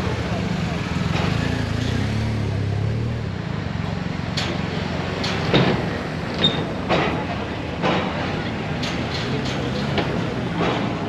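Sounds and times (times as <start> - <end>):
wheels clanking over metal ramp: 0.2 - 2.6, 4.2 - 11.0.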